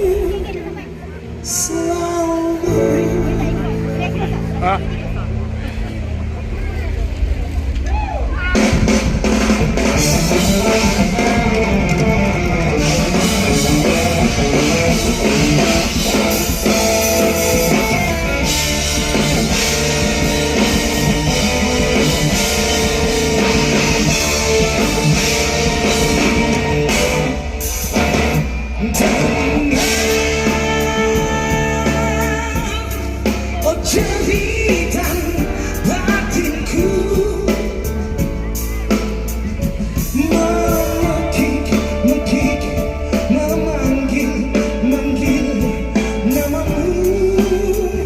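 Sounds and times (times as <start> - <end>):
bass guitar: 0.0 - 48.0
drum kit: 0.0 - 48.0
electric guitar: 0.0 - 48.0.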